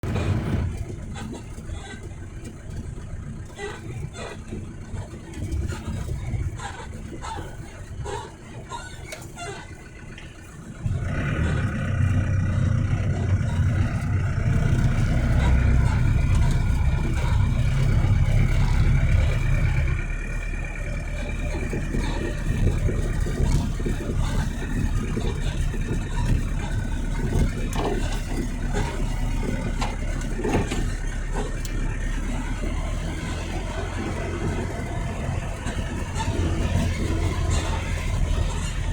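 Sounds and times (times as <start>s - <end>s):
vehicle engine starting and running: 0.0s - 38.9s.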